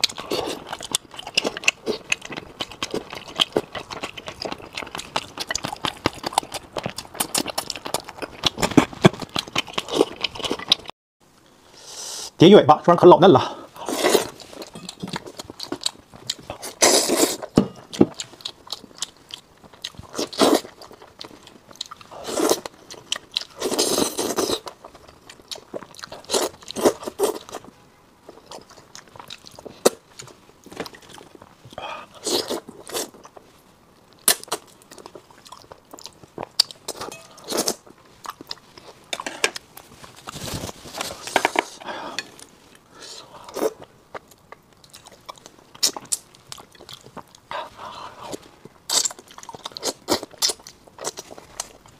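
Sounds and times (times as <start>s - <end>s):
person chewing crunchy food: 0.0s - 10.9s, 13.8s - 27.7s, 28.3s - 33.5s, 34.1s - 51.9s.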